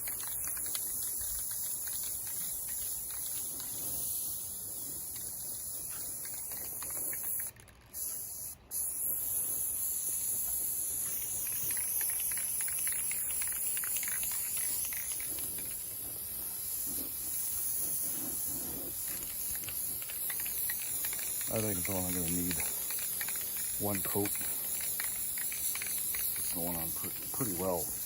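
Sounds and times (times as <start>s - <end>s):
spray paint can hissing: 0.0s - 28.0s.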